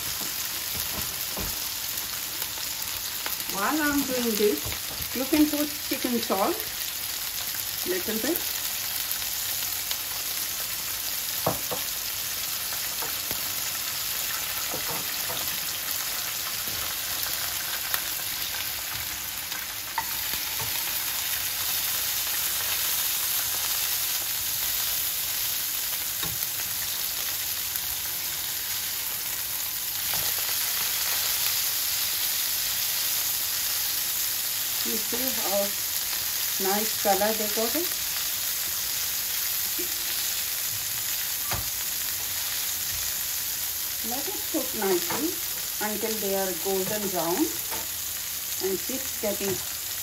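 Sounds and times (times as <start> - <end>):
food frying in oil: 0.0 - 50.0.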